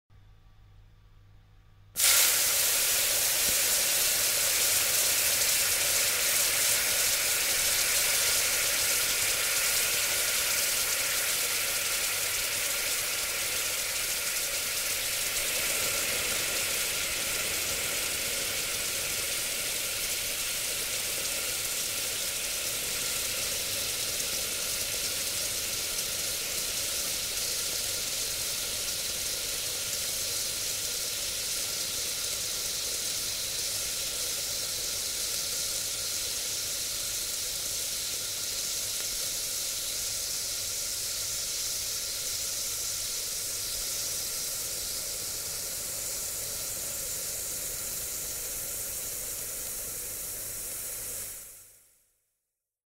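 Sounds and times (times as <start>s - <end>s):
steam hissing: 2.0s - 51.9s.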